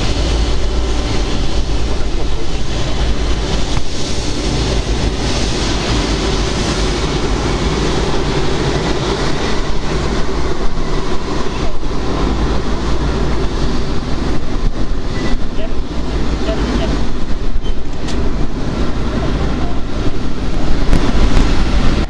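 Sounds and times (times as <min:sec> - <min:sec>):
heavy low rumble: 0:00.0 - 0:22.0
jet engines rushing: 0:00.0 - 0:22.0.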